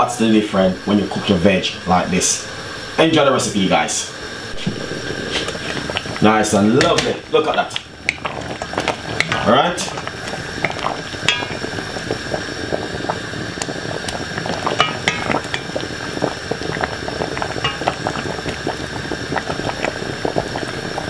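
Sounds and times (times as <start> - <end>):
water boiling in a pot: 0.0 - 21.0.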